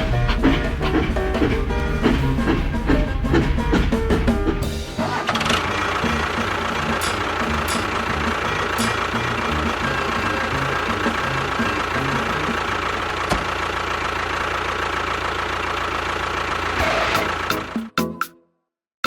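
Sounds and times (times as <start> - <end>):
small engine running: 0.0 - 17.9.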